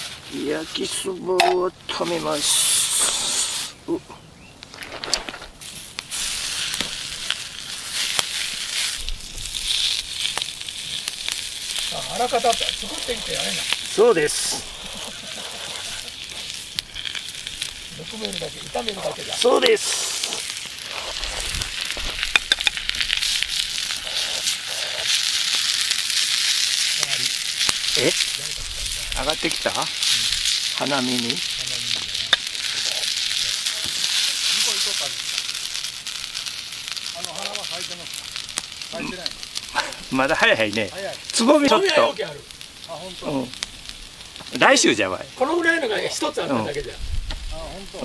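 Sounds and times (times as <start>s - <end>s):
noodles sizzling in hot pan: 0.0s - 3.9s, 4.6s - 48.0s
sharp pops: 2.3s - 44.6s.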